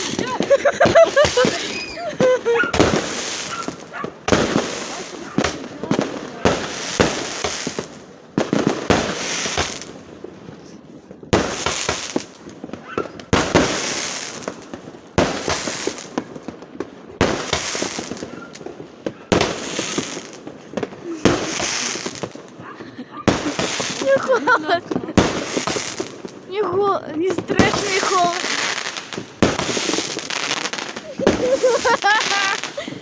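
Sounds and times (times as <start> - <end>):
fireworks bursting: 0.0 - 33.0
fireworks crackling: 0.0 - 33.0.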